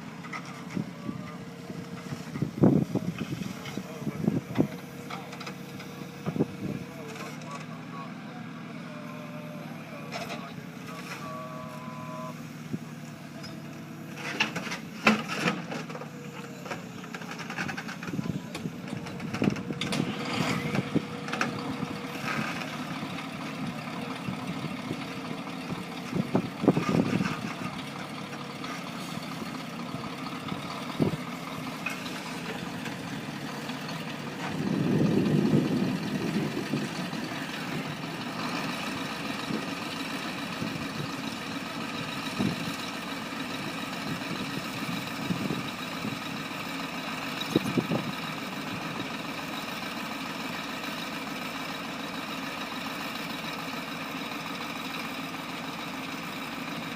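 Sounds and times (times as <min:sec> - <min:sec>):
heavy machine engine running: 0:00.0 - 0:56.9.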